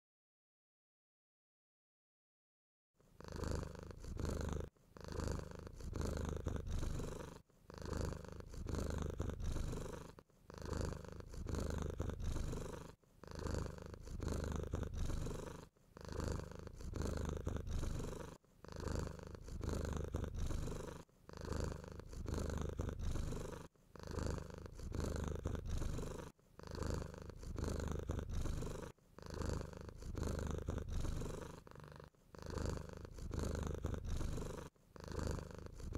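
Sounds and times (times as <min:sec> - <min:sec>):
cat purring: 0:03.0 - 0:35.9.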